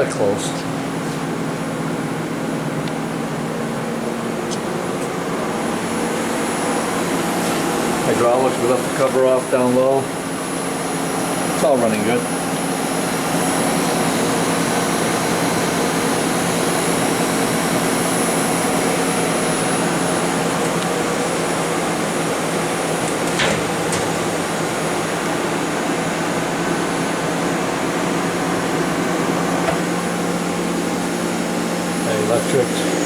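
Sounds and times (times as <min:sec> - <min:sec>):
machine hydraulic hum and hiss: 0:03.7 - 0:33.0.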